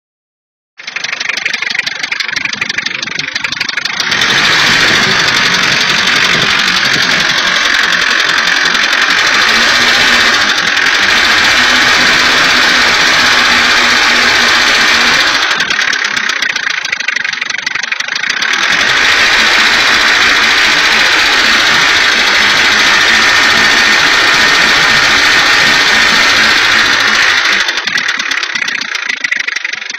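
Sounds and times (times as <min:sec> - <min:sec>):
engine with metallic clatter: 0:00.8 - 0:29.9.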